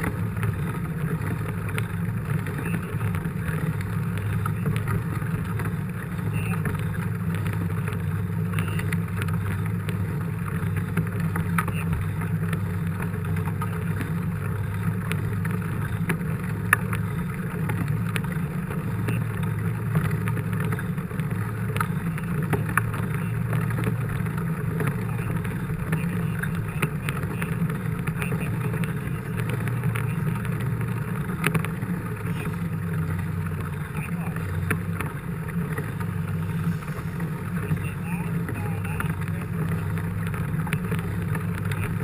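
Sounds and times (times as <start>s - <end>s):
road rumble: 0.0s - 42.0s
wind: 0.0s - 42.0s.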